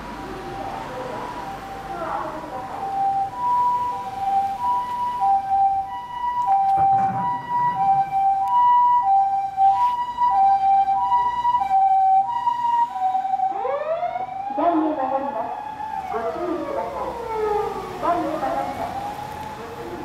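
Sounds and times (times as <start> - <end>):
ambulance siren two-tone call: 0.0 - 20.0.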